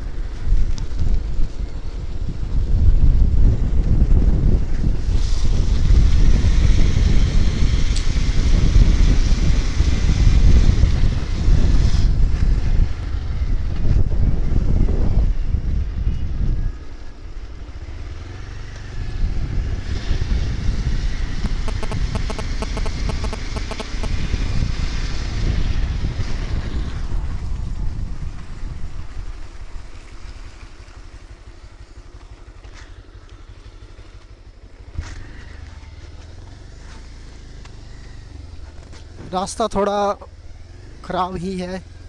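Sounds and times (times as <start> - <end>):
motorbike engine rumble: 0.0 - 39.6.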